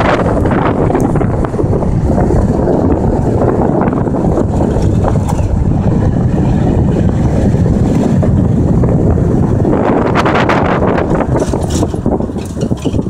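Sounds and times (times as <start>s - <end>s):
pickup truck driving on dirt road: 0.0s - 13.0s
wind rumble on microphone: 0.0s - 13.0s.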